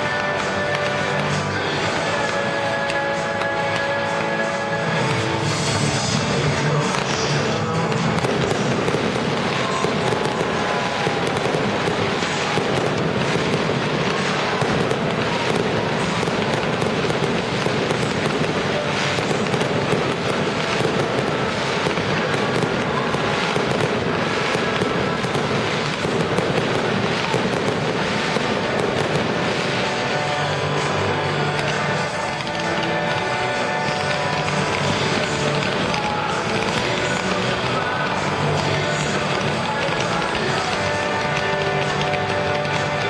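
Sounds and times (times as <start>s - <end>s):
fireworks crackling and popping: 0.0s - 43.0s
steady firework hiss: 4.0s - 42.9s.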